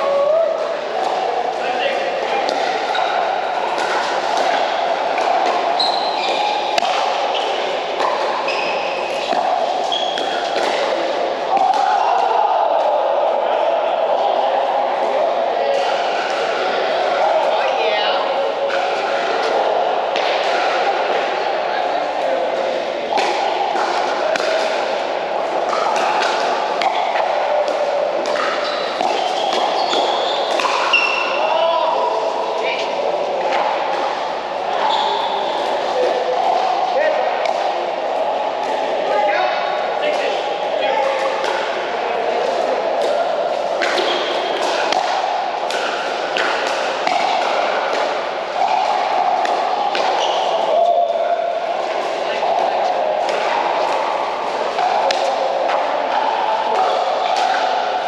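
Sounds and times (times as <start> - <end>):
indoor hall din: 0.0 - 58.0.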